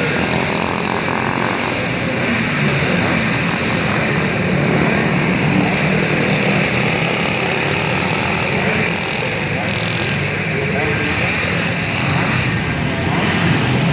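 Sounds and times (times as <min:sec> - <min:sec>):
kart engines droning: 0:00.0 - 0:13.9.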